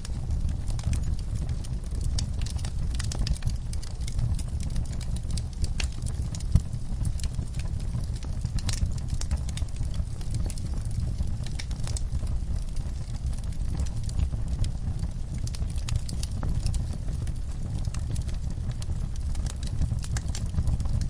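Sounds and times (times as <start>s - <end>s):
fire low rumble: 0.0s - 21.0s
wood fire crackling and popping: 0.0s - 21.0s.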